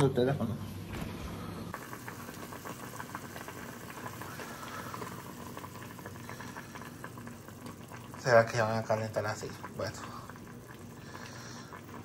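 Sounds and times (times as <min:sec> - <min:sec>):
water bubbling in a pan: 0:01.7 - 0:12.0.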